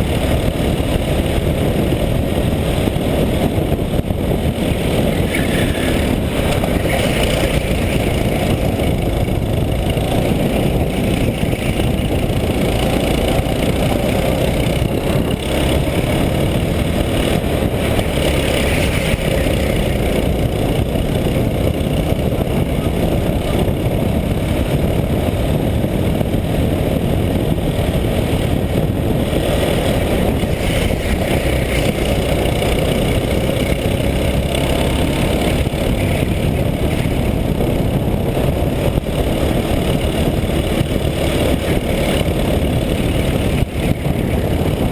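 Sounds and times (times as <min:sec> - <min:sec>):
kart engine running at speed: 0:00.0 - 0:44.9
wind and road noise: 0:00.0 - 0:44.9.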